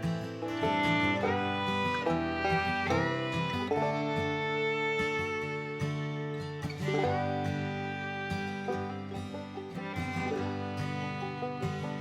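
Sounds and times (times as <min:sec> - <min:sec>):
bluegrass acoustic guitar music: 0:00.0 - 0:12.0.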